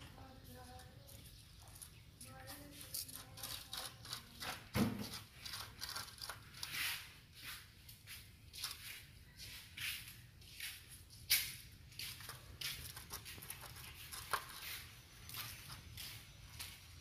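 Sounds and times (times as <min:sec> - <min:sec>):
plastic cups rustling on concrete: 0:00.1 - 0:17.0.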